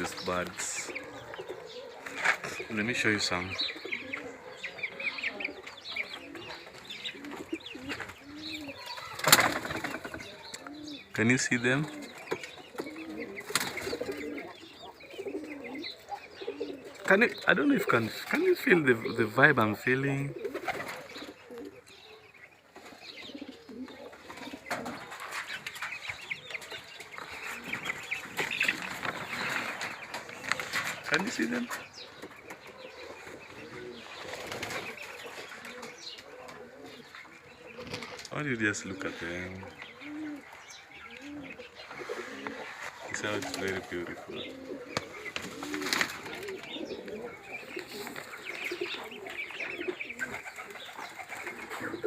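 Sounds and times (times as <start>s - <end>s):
chickens clucking: 0.0s - 52.0s
high peeping calls: 0.0s - 52.0s.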